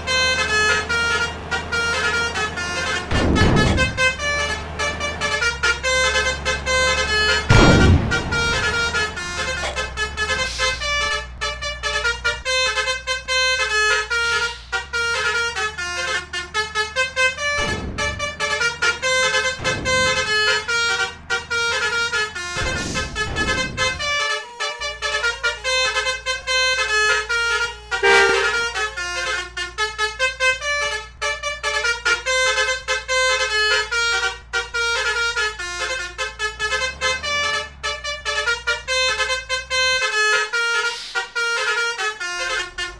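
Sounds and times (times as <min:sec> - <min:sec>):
low engine rumble: 0:00.0 - 0:42.9
multi-tone bus horns playing tune: 0:00.0 - 0:42.9.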